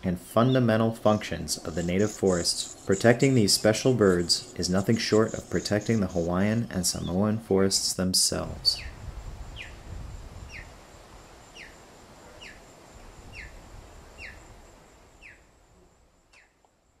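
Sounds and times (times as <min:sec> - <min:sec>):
faint high whine: 0:00.0 - 0:17.0
soft background hiss: 0:00.0 - 0:17.0.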